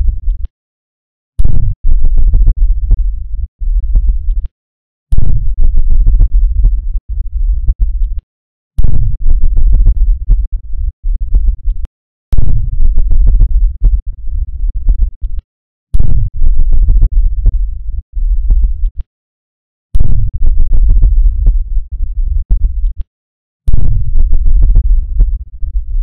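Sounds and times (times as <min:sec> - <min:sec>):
deep bass rumble bursts: 0:00.0 - 0:00.4, 0:01.4 - 0:04.5, 0:05.1 - 0:08.2, 0:08.8 - 0:15.4, 0:16.0 - 0:19.0, 0:20.0 - 0:23.0, 0:23.7 - 0:26.0.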